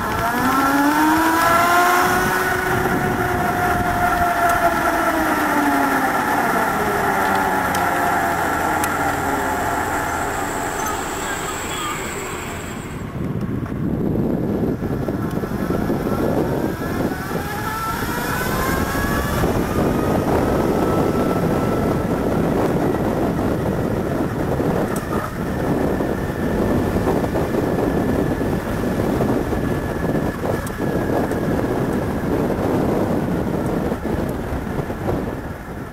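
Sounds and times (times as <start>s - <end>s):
electric motorcycle motor whine: 0.0s - 35.9s
road noise: 0.0s - 35.9s
wind buffeting microphone: 0.0s - 35.9s.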